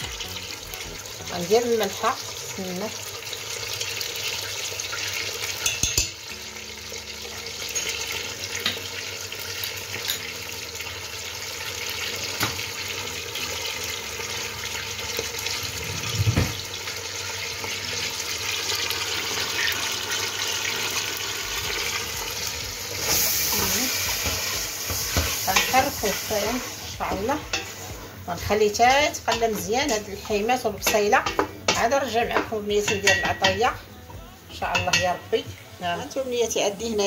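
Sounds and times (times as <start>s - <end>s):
meat and onions sizzling: 0.0s - 37.0s.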